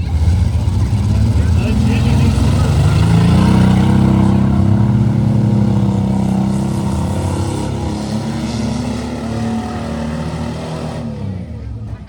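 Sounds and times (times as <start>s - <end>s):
car engines running loud: 0.0s - 12.0s.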